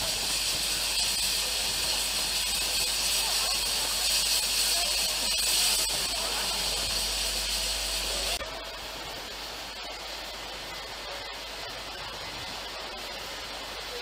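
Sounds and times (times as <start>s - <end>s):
station background noise: 0.0s - 14.0s
steam locomotive hissing steam: 0.0s - 14.0s.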